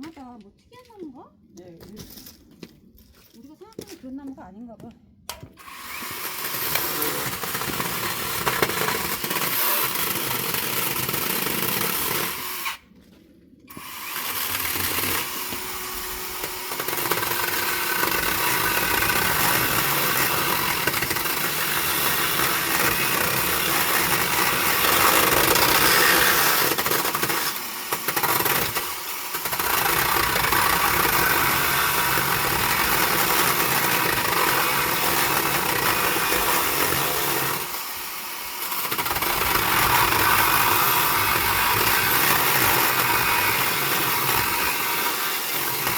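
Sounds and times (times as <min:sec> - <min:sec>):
power tool running: 0:05.3 - 0:12.8, 0:13.7 - 0:45.9.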